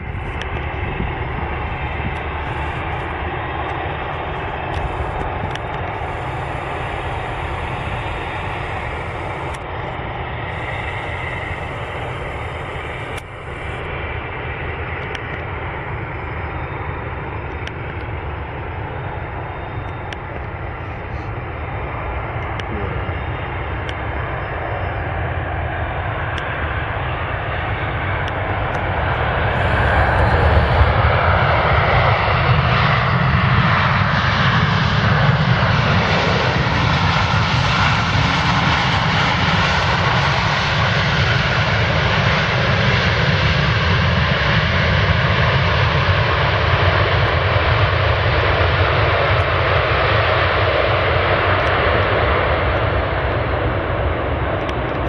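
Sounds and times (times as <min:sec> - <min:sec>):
jet airliner landing: 0:00.0 - 0:55.0.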